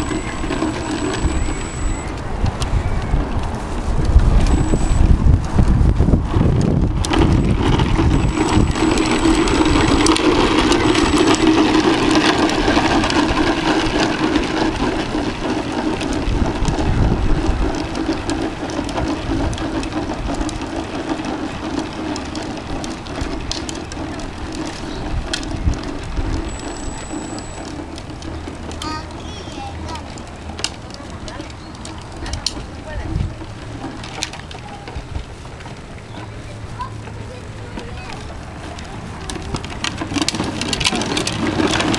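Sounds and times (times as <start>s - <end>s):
plastic wheels rolling on asphalt: 0.0s - 41.9s.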